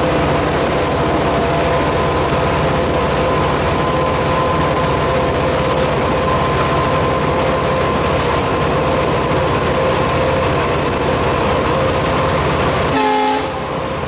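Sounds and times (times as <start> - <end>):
locomotive engine and wheels rumbling: 0.0 - 14.0
steady whine: 0.0 - 14.0.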